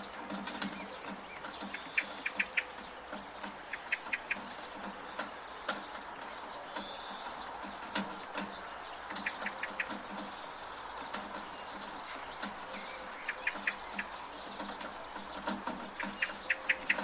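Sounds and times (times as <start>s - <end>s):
bird chirping: 0.0s - 17.0s
rain hiss: 0.0s - 17.0s
water dripping from gutter: 0.0s - 17.0s.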